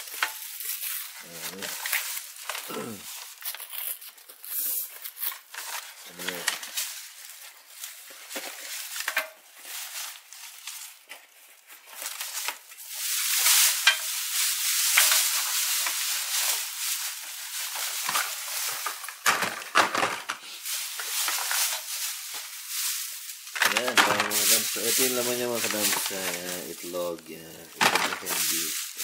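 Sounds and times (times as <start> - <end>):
plastic bag crinkling: 0.0 - 29.0.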